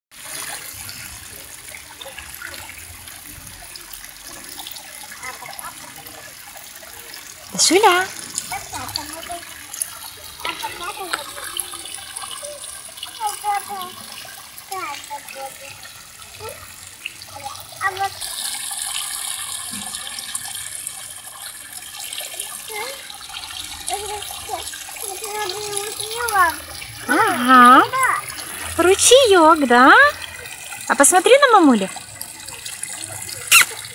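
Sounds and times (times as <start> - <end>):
stream trickling and babbling: 0.1 - 33.9.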